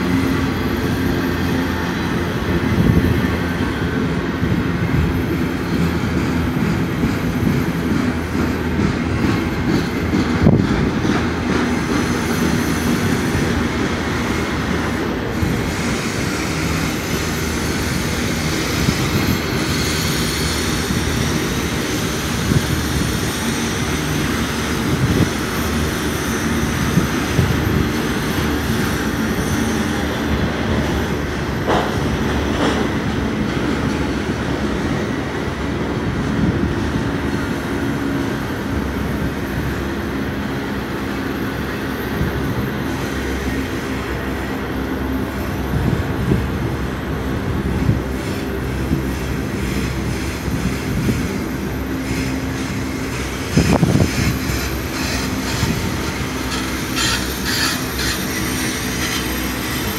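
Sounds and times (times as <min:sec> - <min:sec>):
clattering train couplings: 0:00.0 - 0:35.2, 0:41.0 - 0:59.9
train wheels rumbling on rail: 0:00.0 - 0:59.9.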